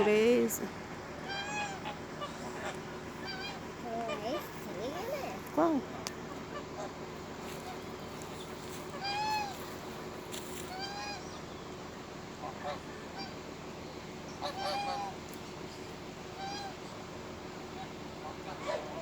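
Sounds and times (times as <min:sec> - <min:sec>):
faint steady hum: 0:00.0 - 0:19.0
swans honking: 0:00.0 - 0:19.0.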